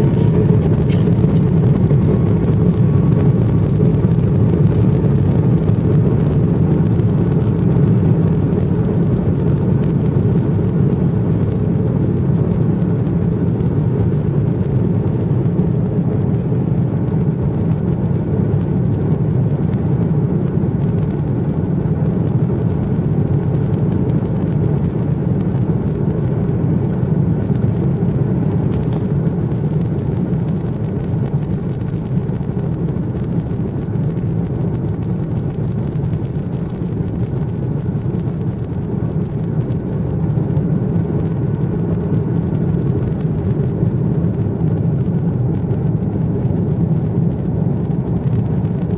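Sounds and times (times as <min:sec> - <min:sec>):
jet engines rumbling in cabin: 0:00.0 - 0:48.9.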